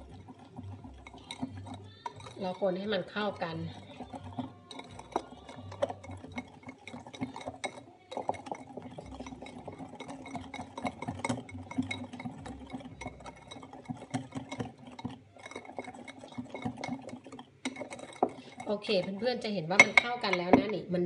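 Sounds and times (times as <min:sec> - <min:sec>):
batter splashing: 0:00.0 - 0:21.0
whisk clinking against glass bowl: 0:00.0 - 0:21.0.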